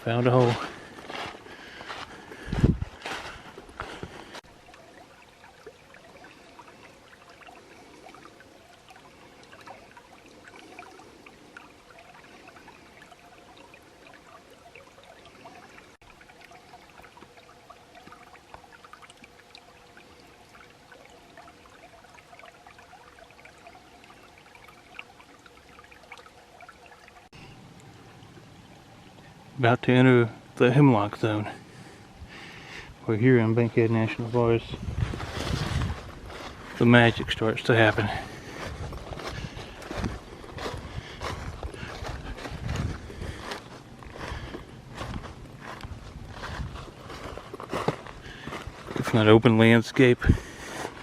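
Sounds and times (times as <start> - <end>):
creek trickling and splashing: 0.0 - 51.0.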